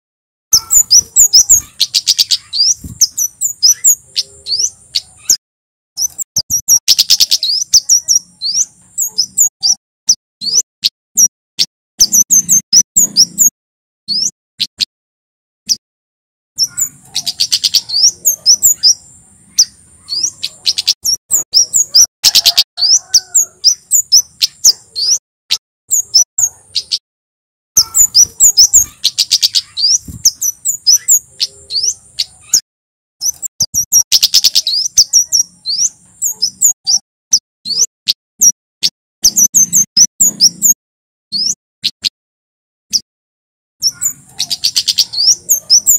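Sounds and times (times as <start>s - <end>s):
bird singing high sharp notes: 0.5s - 5.4s, 6.0s - 13.5s, 14.1s - 14.9s, 16.6s - 25.2s, 25.9s - 27.0s, 27.8s - 32.6s, 33.2s - 42.1s, 43.8s - 45.9s.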